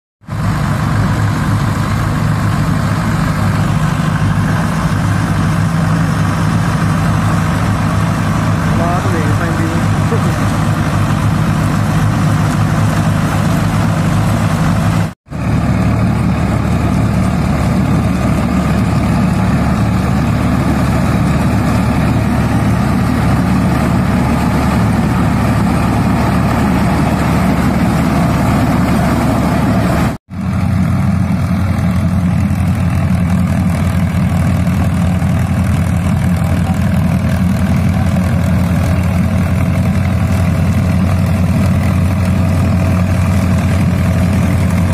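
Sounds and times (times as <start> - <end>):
tractor engines running under load: 0.2 - 44.9.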